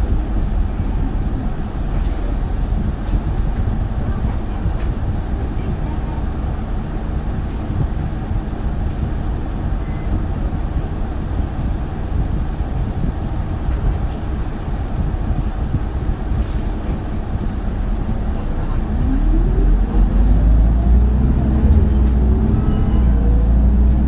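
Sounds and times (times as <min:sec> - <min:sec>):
bus diesel engine rumble: 0:00.0 - 0:24.0
road noise: 0:00.0 - 0:24.0.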